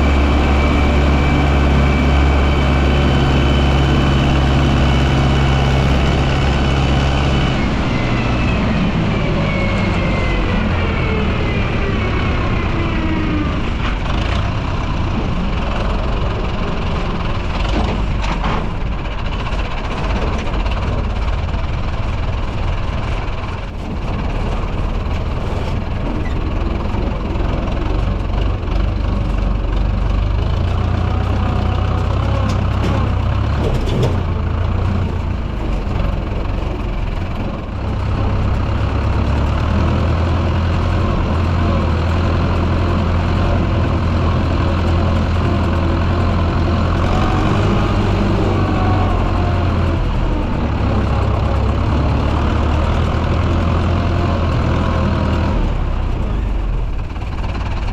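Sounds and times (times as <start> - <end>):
tractor diesel engine droning: 0.0 - 57.9.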